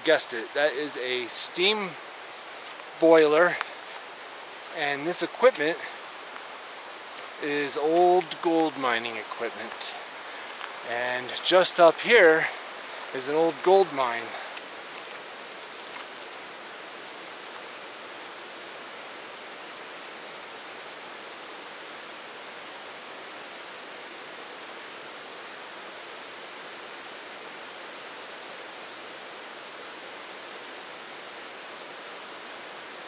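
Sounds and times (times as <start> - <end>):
creek rushing: 0.0 - 33.0.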